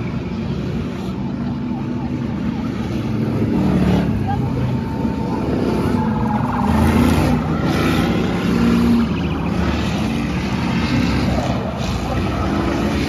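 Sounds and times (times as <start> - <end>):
car engines racing: 0.0 - 13.0.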